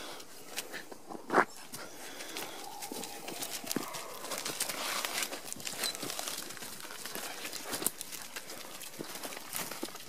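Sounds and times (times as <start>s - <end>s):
paws scuffling through dry leaves: 1.5s - 10.0s.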